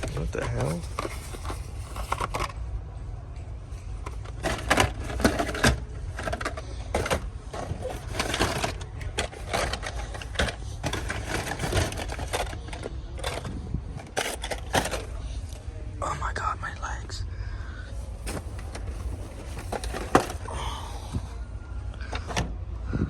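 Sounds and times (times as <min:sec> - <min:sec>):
plastic toys clattering: 0:00.0 - 0:02.8, 0:03.7 - 0:15.6, 0:18.0 - 0:21.4, 0:22.0 - 0:22.6
steady low hum: 0:00.0 - 0:23.0.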